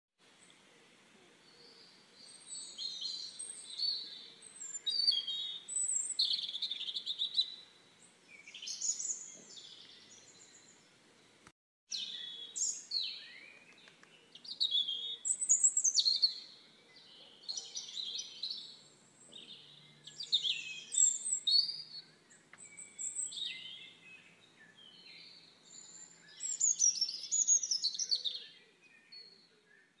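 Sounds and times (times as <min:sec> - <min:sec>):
birds chirping and singing: 0:01.4 - 0:30.0.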